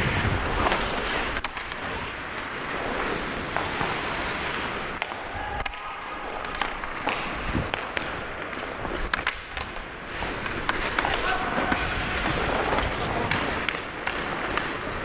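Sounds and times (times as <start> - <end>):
hockey sticks and pucks clicking: 0.0 - 15.0
skate blades scraping ice: 0.0 - 15.0.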